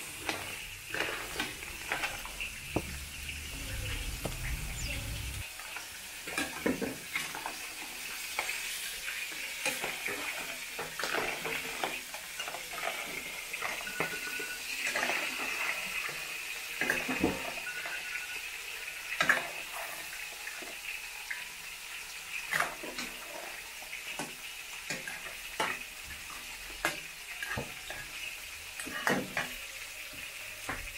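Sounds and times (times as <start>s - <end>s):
food sizzling in a wok: 0.0s - 30.9s.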